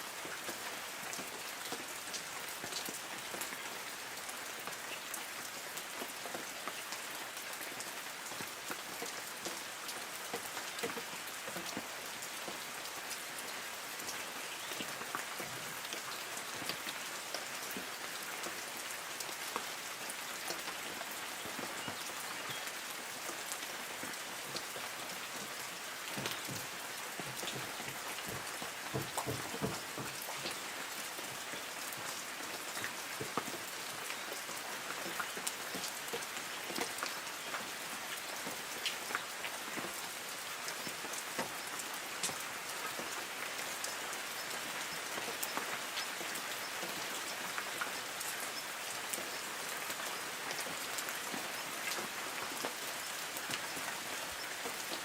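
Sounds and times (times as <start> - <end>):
rain pattering on leaves: 0.0 - 55.0
heavier water drips: 0.1 - 55.0.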